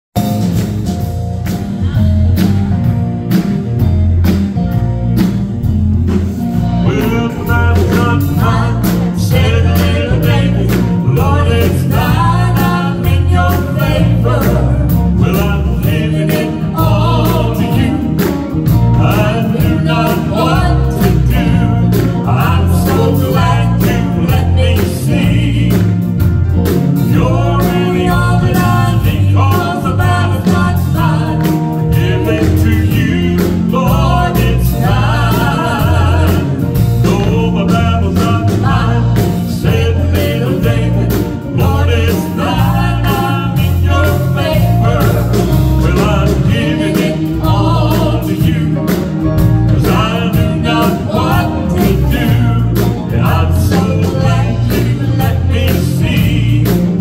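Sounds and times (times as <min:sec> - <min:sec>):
gospel band piano and guitars: 0:00.1 - 0:57.0
voices singing: 0:06.8 - 0:57.0.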